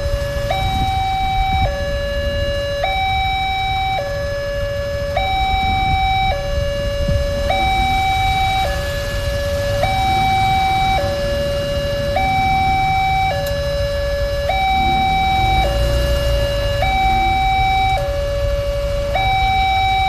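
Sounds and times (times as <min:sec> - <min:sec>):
two-tone level crossing siren: 0:00.0 - 0:20.0.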